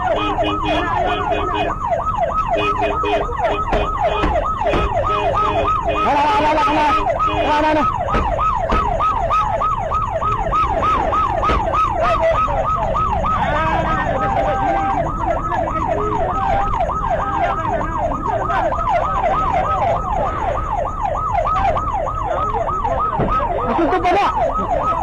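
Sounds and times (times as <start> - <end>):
police siren yelping: 0.0 - 25.0.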